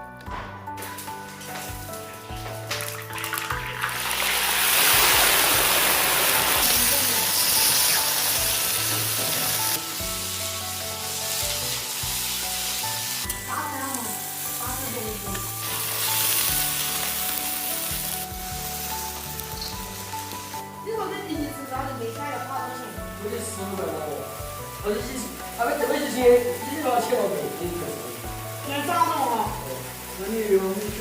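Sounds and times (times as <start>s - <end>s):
background music: 0.0s - 31.0s
food sizzling in hot oil: 0.7s - 31.0s.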